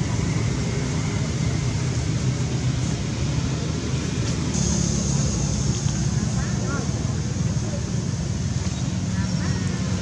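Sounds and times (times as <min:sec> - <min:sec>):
hiss: 0:01.7 - 0:10.0.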